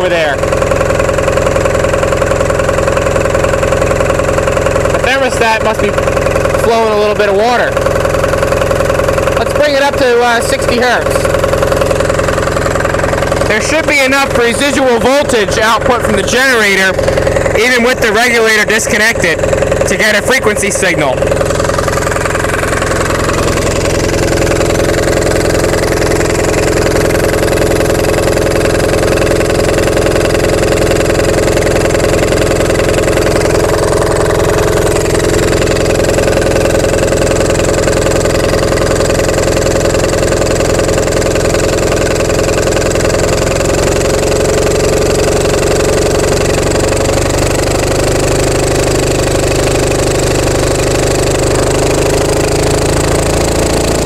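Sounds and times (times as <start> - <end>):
diesel generator running: 0.0 - 54.0.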